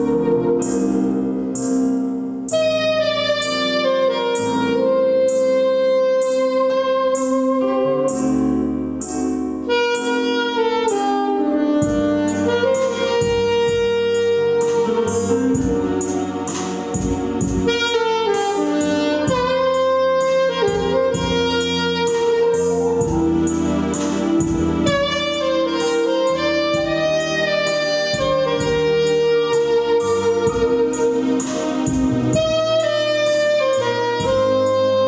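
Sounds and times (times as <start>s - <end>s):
accompaniment with steady beat: 0.0s - 35.0s
saxophone playing jazz melody: 0.0s - 35.0s.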